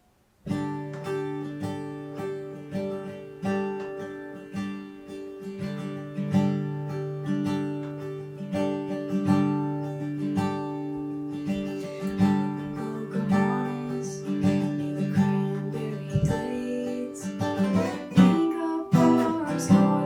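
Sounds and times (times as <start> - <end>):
acoustic guitar fingerpicking and strumming: 0.0 - 20.0.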